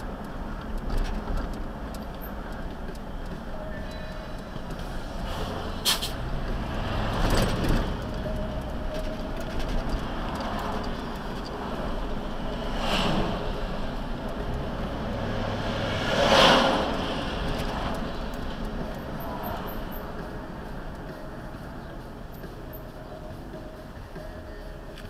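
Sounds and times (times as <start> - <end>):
road noise inside car: 0.0 - 25.0
vehicles swishing past: 0.0 - 25.0
large truck passing: 0.9 - 24.8.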